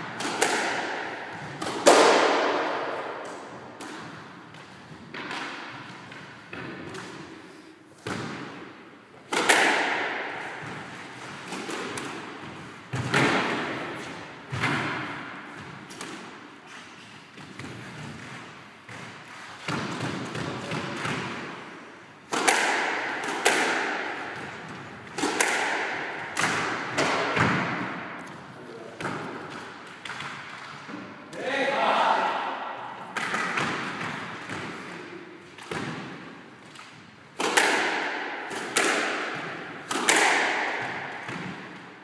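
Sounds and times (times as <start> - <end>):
squash ball hits echoing: 0.0 - 16.6, 17.3 - 31.5, 32.1 - 42.0.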